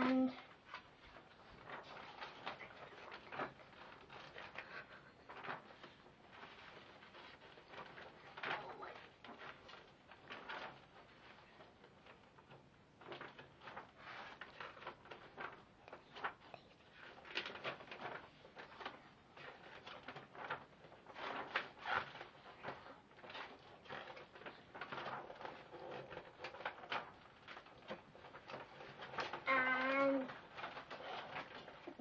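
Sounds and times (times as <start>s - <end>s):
paper rustling: 0.0s - 32.0s.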